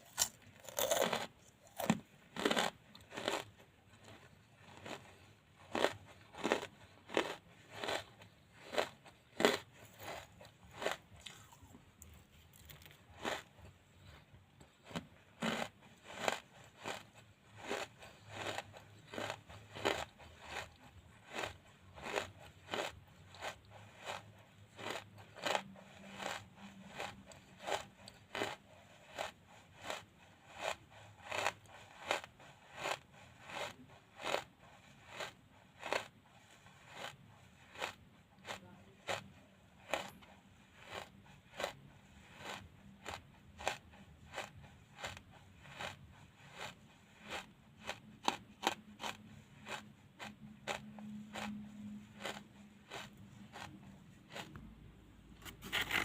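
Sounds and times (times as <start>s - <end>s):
charcoal being chewed: 0.0s - 56.0s.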